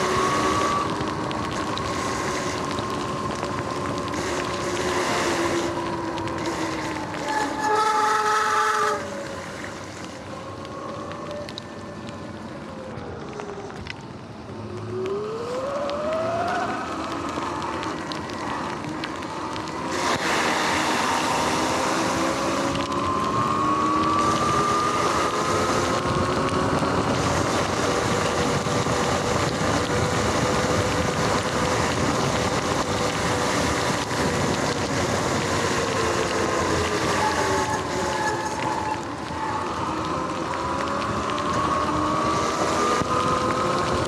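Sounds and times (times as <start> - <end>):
wind and wet tyres hiss: 0.0 - 44.0.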